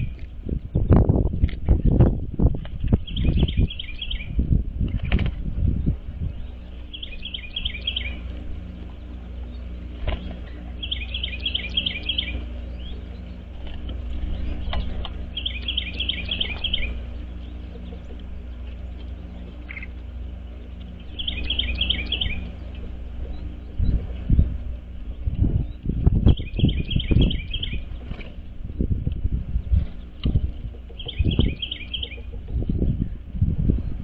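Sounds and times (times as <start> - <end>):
songbird singing: 0.0 - 34.0
steady low rumble: 0.0 - 34.0.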